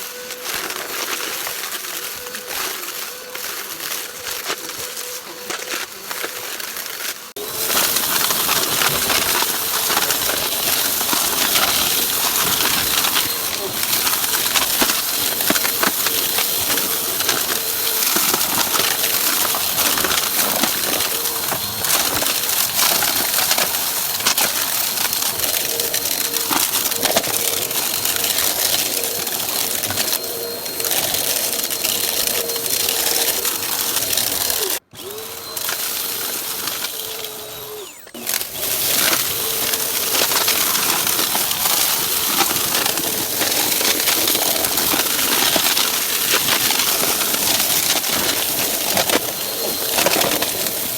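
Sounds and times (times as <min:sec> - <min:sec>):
debris crackling in vacuum: 0:00.0 - 0:50.9
vacuum cleaner running: 0:00.0 - 0:50.9.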